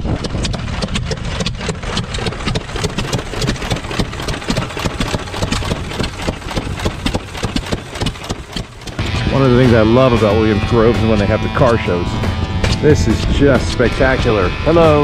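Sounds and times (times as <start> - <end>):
stationary engines popping: 0.0 - 15.0.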